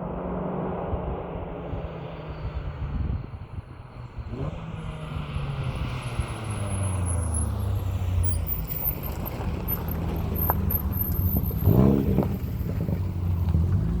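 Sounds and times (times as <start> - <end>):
engine rev: 0.0 - 14.0.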